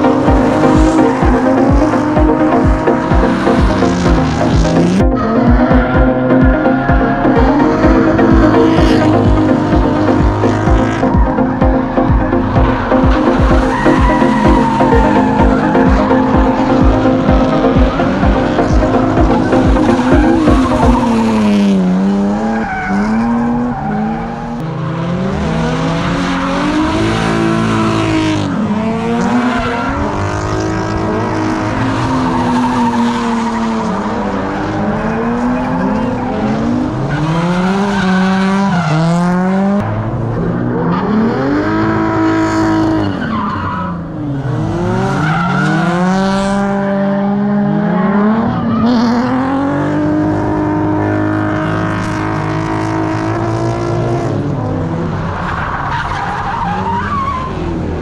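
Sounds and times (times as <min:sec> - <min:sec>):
car engines revving: 0:00.0 - 0:58.0
tyres skidding and squealing: 0:00.0 - 0:58.0.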